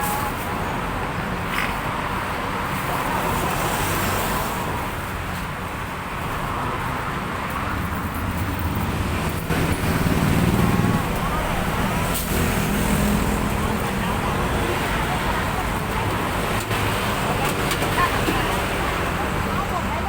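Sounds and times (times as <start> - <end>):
road traffic noise: 0.0 - 20.0
vehicle engine rumble: 0.0 - 20.0.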